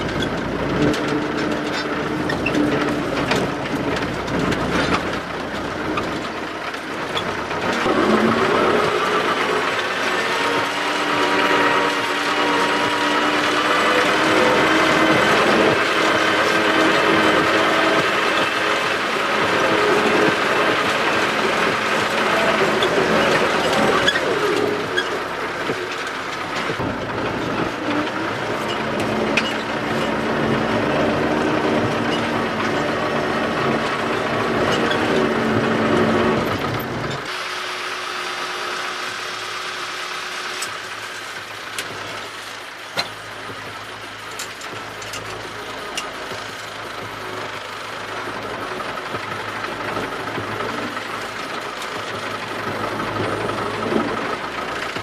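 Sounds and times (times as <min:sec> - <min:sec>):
cab rattling clicks: 0:00.0 - 0:37.3, 0:40.6 - 0:55.0
tractor diesel engine running: 0:00.0 - 0:55.0.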